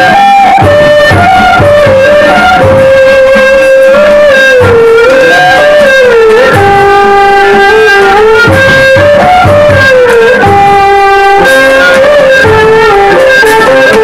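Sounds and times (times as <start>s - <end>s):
plucked string instrument melody: 0.0s - 14.0s.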